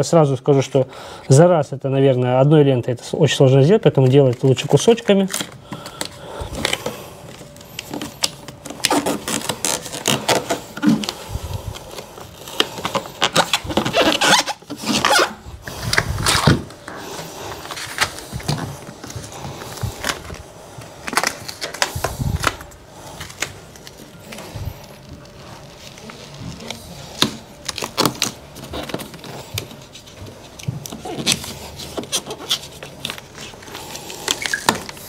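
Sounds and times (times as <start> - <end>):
plastic film and tape crinkling: 3.4 - 35.0.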